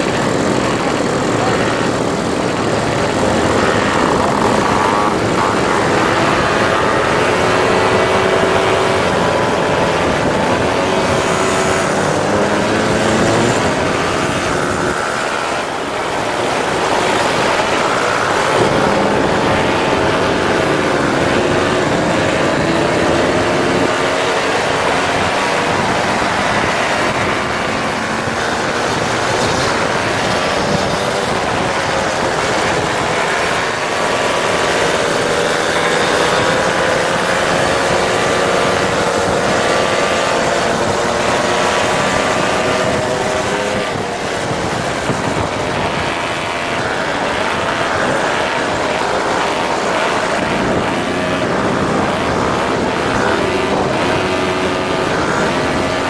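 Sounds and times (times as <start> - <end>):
moped engines buzzing: 0.0 - 56.0
steady rush of noise: 0.0 - 56.0.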